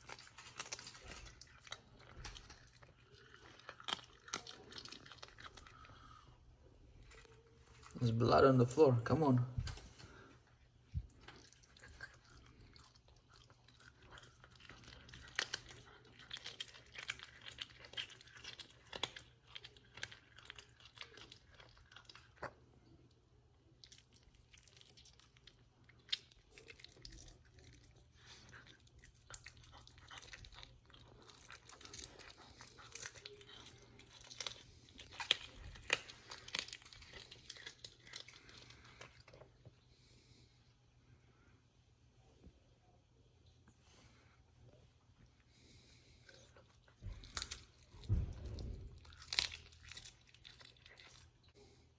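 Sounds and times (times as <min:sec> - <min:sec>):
animal chewing and crunching: 0:00.0 - 0:08.6, 0:09.2 - 0:40.1, 0:45.5 - 0:51.8.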